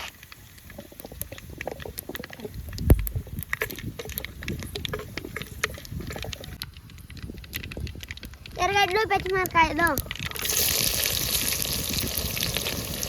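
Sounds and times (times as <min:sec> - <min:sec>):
spices crackling in hot oil: 0:00.0 - 0:13.0.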